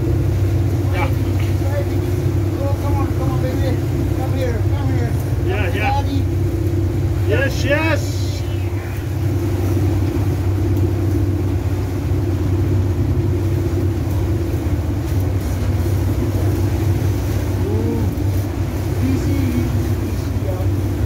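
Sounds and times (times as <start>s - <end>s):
boat engine droning: 0.0s - 21.0s
wake water rushing: 0.0s - 21.0s.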